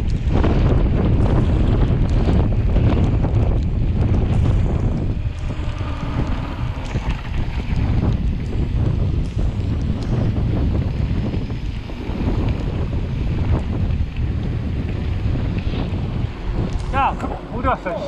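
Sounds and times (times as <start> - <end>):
bike clicks and rattles: 0.0 - 17.3
wind buffeting microphone: 0.0 - 18.0.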